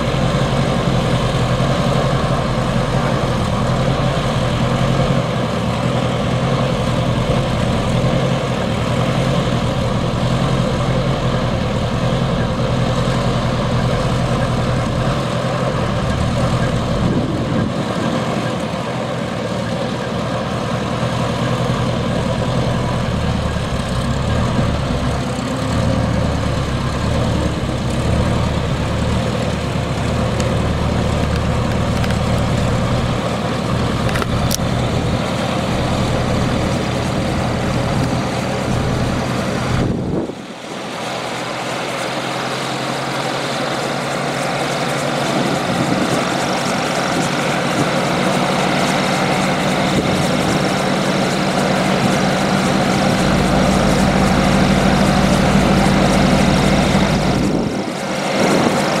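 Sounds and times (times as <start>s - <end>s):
helicopter engine idling: 0.0s - 59.0s.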